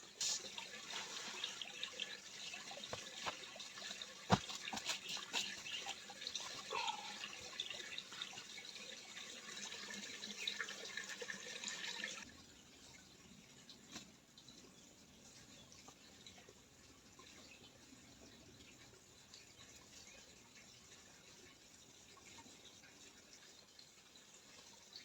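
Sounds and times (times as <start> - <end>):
water splashing and trickling: 0.0 - 25.0.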